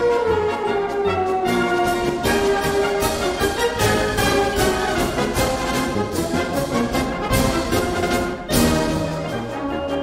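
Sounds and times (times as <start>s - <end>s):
orchestral music: 0.0s - 10.0s.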